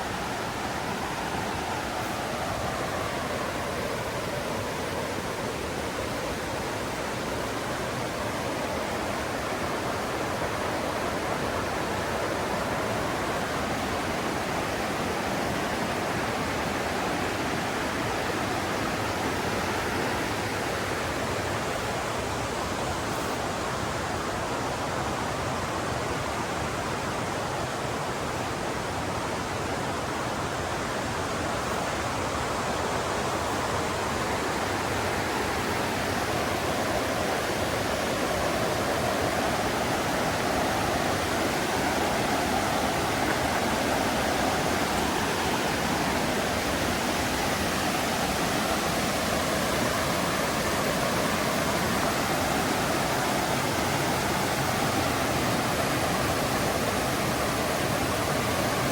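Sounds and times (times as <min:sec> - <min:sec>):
river rushing over rocks: 0:00.0 - 0:58.9.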